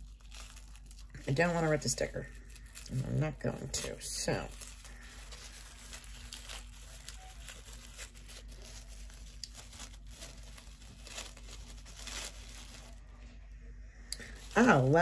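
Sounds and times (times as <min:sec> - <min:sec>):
paper tearing: 0:00.0 - 0:13.2
wrapping crinkling and rustling: 0:00.0 - 0:15.0.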